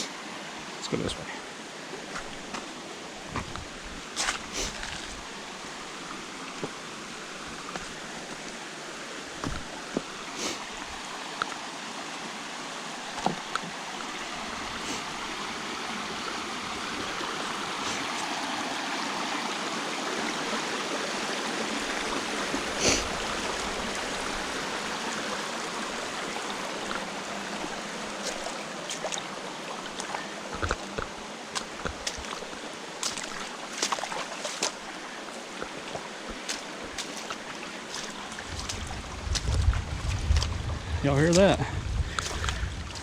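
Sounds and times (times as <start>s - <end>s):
creek water rushing over rocks: 0.0s - 43.0s.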